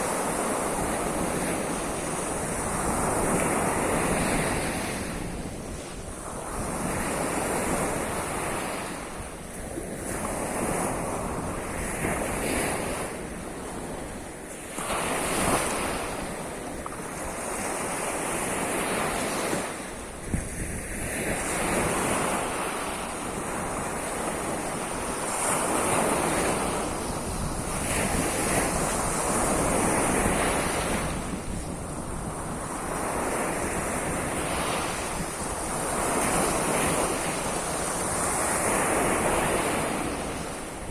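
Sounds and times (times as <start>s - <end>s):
waves washing onto shore: 0.0s - 40.9s
wind noise on microphone: 0.0s - 40.9s.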